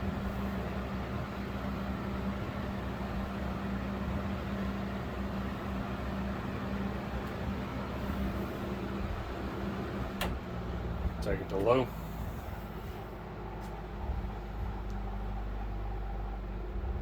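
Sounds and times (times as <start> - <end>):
box fan running: 0.0 - 17.0.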